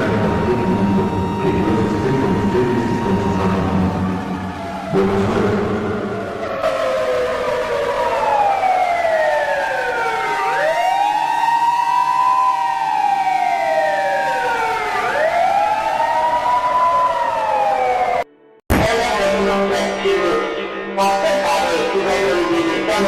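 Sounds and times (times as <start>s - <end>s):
wailing siren: 0.0s - 18.6s, 19.2s - 23.0s.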